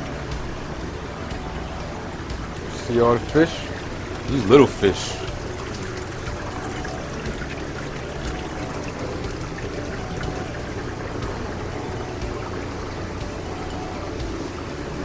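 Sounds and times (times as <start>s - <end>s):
aquarium filter water trickling: 0.0s - 15.0s.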